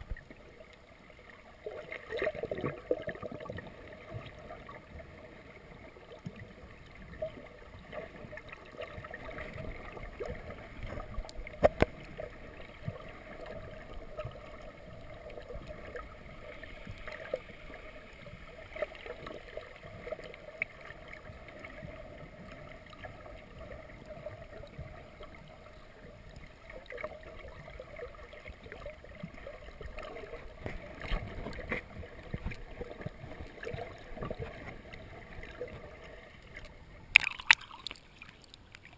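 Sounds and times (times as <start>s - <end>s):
small clicks and crackles: 0.0s - 38.9s.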